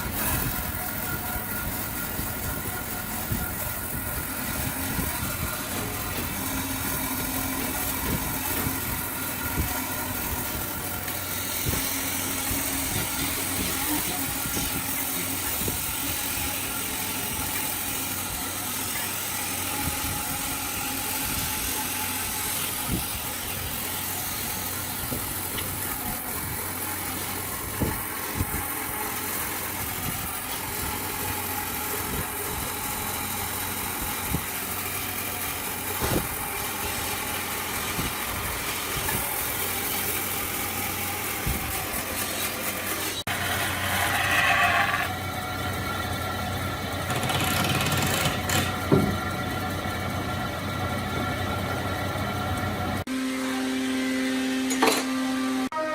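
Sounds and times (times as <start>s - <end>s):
machine hum: 0.0s - 55.9s.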